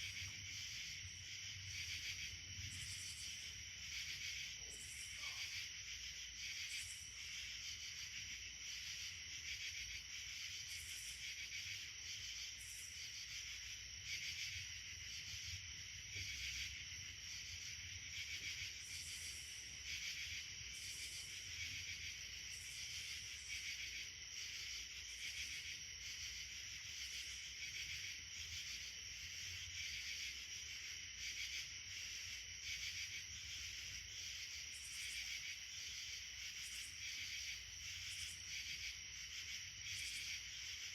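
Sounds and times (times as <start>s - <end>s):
pulsing insect calls: 0.0s - 15.6s, 16.2s - 40.9s
insects droning: 0.0s - 40.9s.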